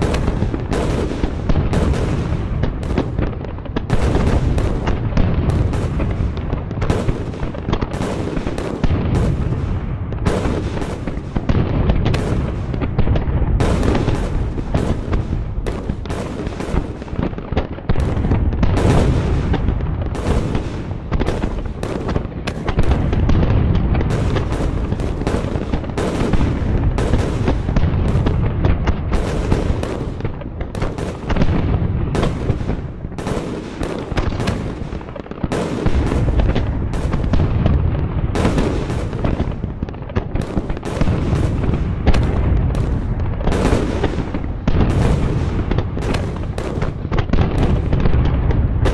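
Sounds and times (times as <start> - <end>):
explosions rumbling: 0.0 - 48.9
gunfire: 0.0 - 48.9.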